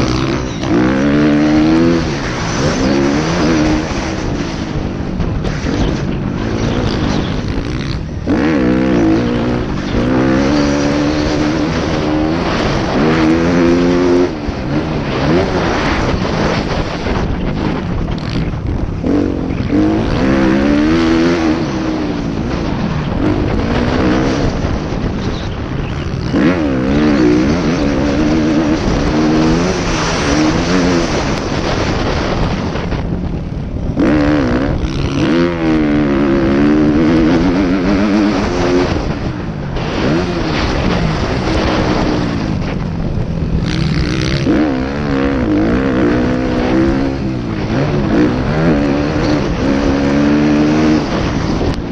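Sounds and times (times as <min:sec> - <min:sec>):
motorcycle engine revving: 0:00.0 - 0:51.9
rushing noise: 0:00.0 - 0:51.9.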